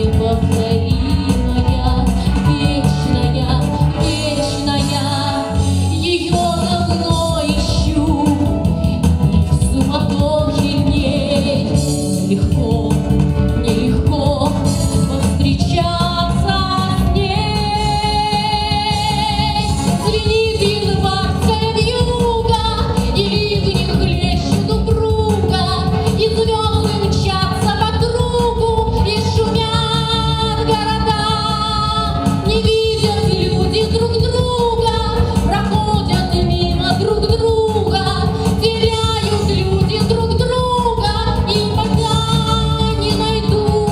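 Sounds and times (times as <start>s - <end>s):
instrumental accompaniment: 0.0s - 43.9s
woman singing with vibrato: 0.0s - 43.9s.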